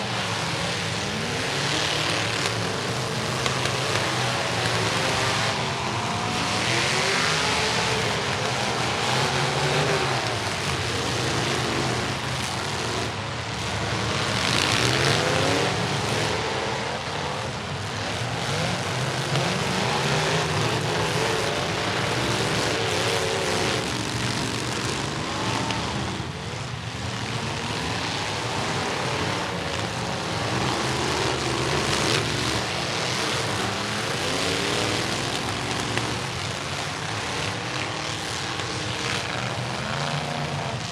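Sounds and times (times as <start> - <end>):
truck engines revving: 0.0 - 40.9.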